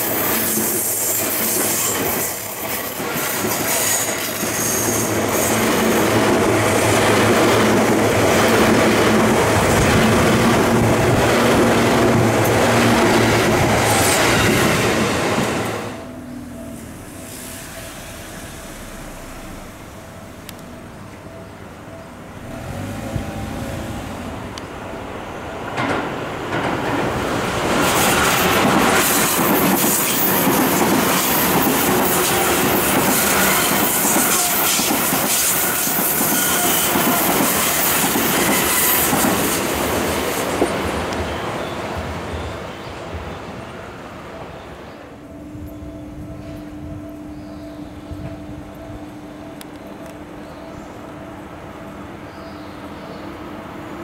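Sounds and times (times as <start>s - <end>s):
electric trains passing: 0.0s - 54.0s.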